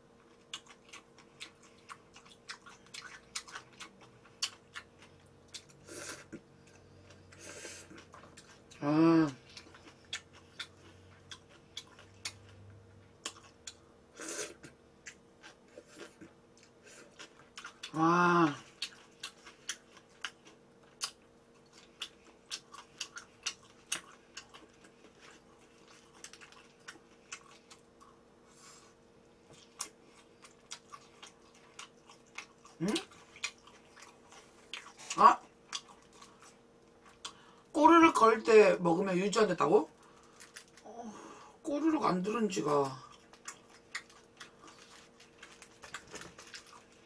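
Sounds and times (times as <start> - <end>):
person chewing noodles: 0.2 - 37.7, 39.9 - 41.5, 42.7 - 47.0.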